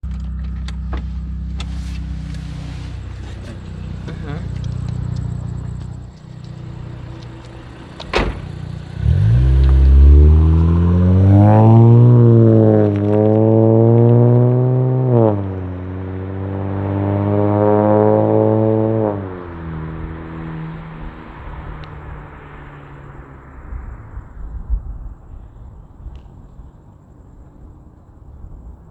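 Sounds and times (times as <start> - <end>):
car engine accelerating: 0.0 - 28.7
exhaust crack: 0.0 - 28.8.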